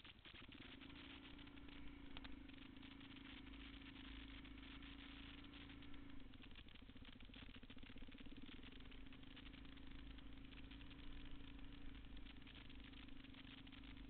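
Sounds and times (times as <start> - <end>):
faint motorcycle engine running: 0.0 - 14.0.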